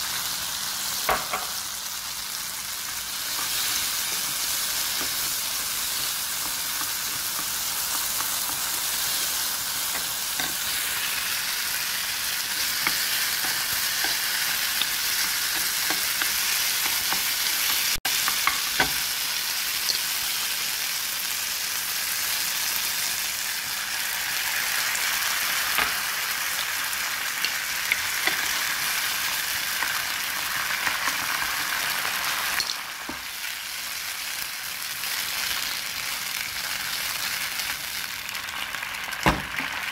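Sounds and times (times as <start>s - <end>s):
rice sizzling in oil: 0.0s - 39.9s.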